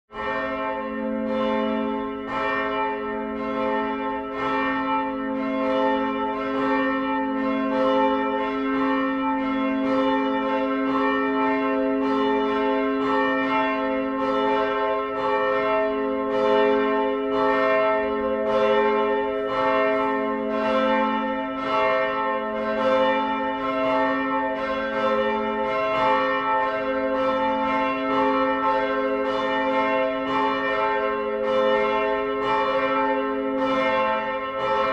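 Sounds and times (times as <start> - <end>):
church bells ringing: 0.1 - 34.9.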